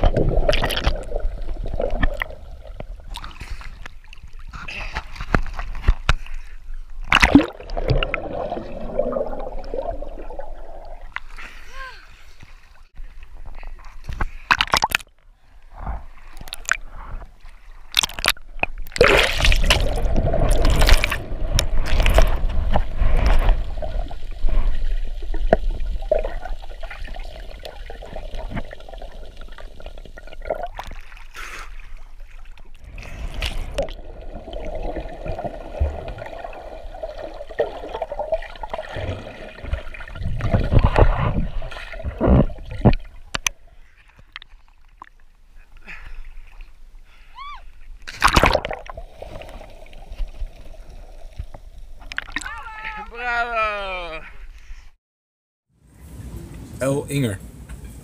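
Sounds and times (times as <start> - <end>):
water sloshing and gurgling: 0.0 - 53.2.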